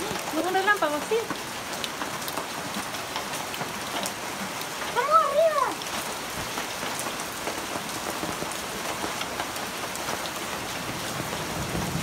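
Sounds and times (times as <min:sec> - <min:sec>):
heavy rain falling: 0:00.0 - 0:12.0
sharp water drips: 0:00.0 - 0:12.0
water streaming down rain chain: 0:00.0 - 0:12.0.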